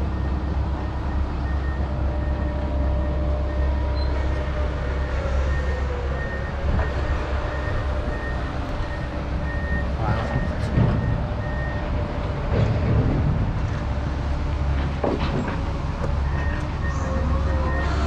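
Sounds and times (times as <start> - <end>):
large engine rumbling: 0.0 - 18.0.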